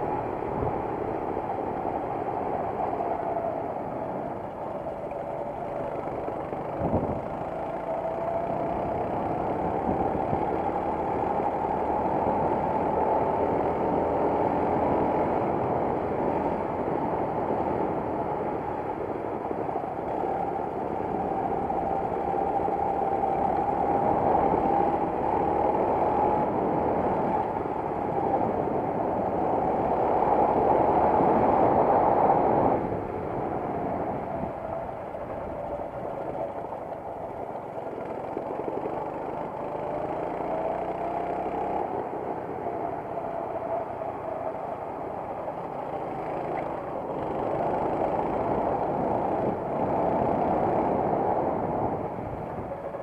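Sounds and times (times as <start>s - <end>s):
racing kart engine: 0.0s - 53.0s
wind noise: 0.0s - 53.0s.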